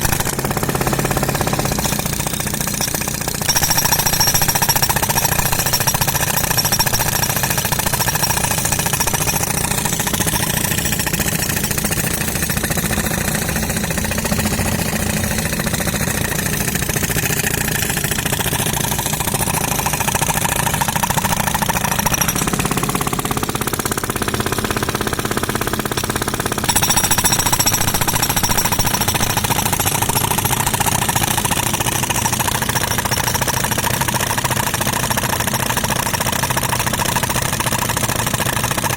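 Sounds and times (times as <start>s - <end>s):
concrete breaker hammering: 0.0s - 38.9s.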